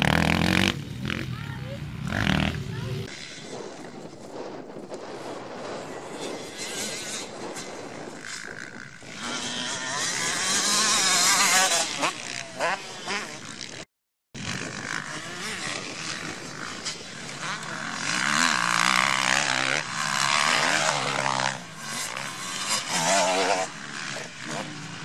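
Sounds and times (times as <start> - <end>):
motorcycle engines revving: 0.0 - 4.3, 5.6 - 25.0.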